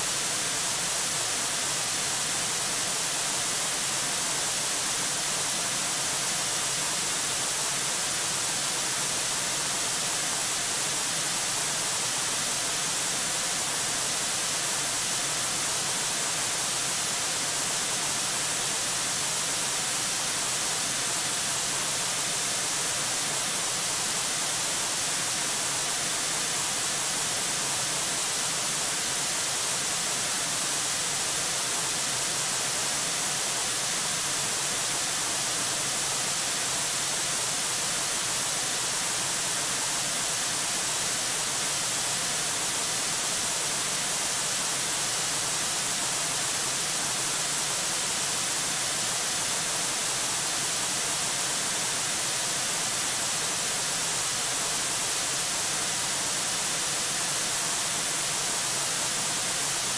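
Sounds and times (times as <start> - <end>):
static hiss: 0.0 - 59.9.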